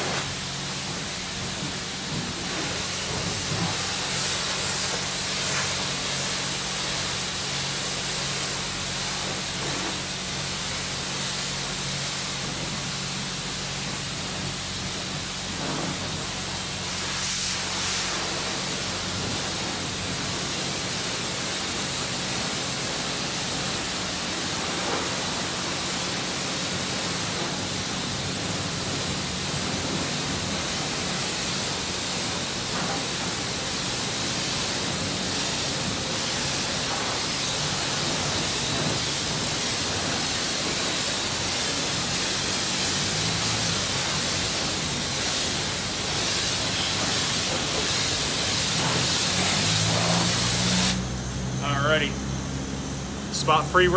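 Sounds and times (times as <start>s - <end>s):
spray wand hissing: 0.0s - 51.5s.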